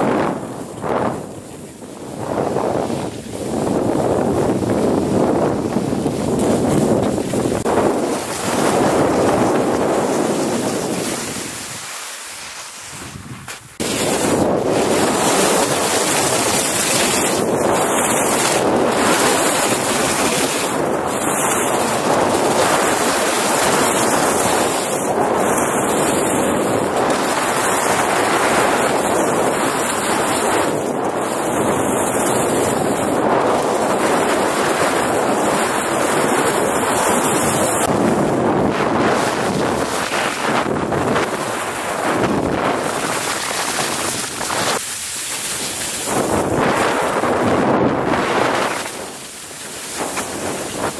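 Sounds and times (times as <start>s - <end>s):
skis sliding over snow: 0.0s - 50.9s
wind on microphone: 0.0s - 50.9s.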